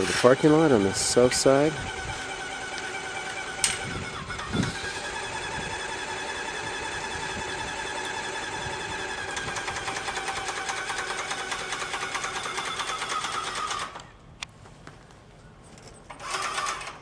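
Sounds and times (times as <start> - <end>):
engine drone with fast rattle: 0.0 - 14.1.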